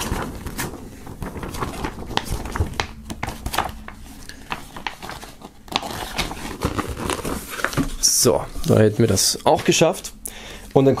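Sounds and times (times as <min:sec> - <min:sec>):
paper rustling and crackling: 0:00.0 - 0:10.0.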